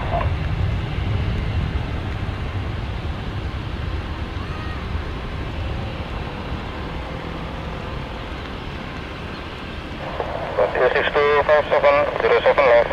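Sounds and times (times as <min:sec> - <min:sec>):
jet engines at takeoff: 0:00.0 - 0:12.9.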